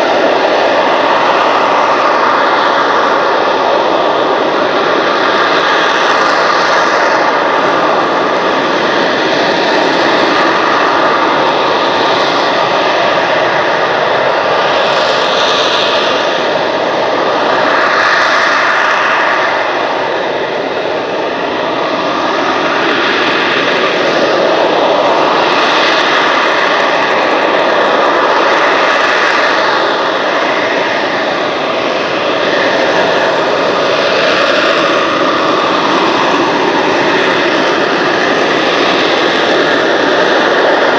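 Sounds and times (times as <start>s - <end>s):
jet engine running with whine: 0.0s - 40.9s.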